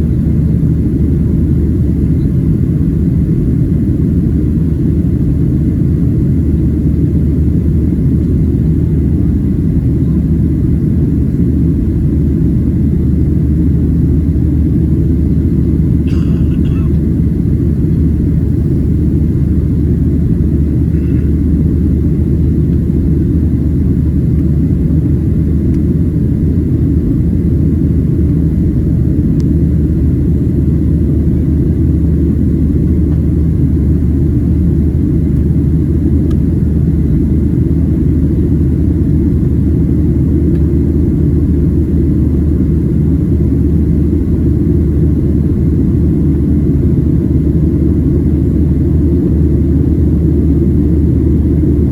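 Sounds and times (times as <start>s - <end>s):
jet engines at climb thrust: 0.0s - 51.9s.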